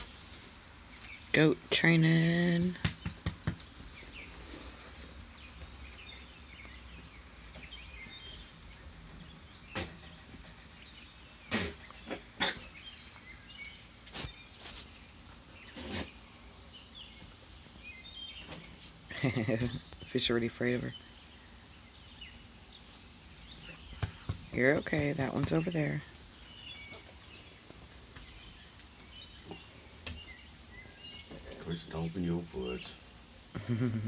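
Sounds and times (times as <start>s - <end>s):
animals moving on concrete: 0.0s - 33.6s
faint birds chirping: 0.0s - 34.0s.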